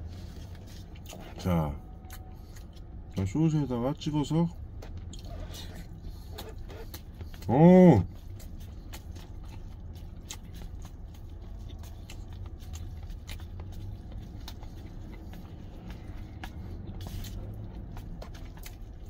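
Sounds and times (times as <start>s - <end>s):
steady low hum: 0.0s - 19.0s
chewing with wet mouth clicks: 0.1s - 19.0s.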